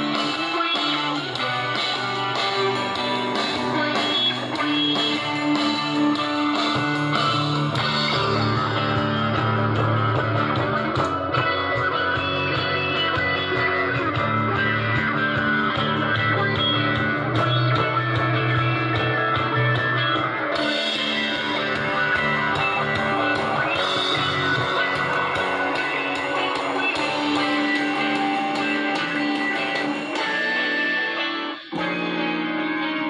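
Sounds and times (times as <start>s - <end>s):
guitar music through small speaker: 0.0s - 33.0s.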